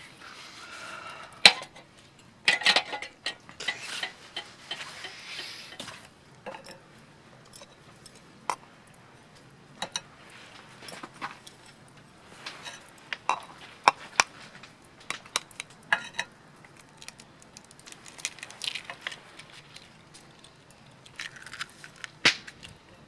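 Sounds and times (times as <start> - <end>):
camp cookware clinking: 1.4 - 23.0.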